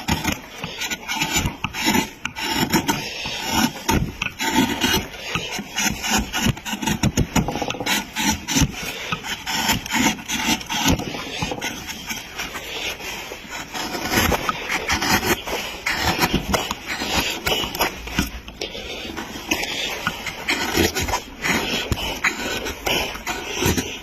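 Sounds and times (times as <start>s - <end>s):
hand tool rasping across wood: 0.0s - 24.0s.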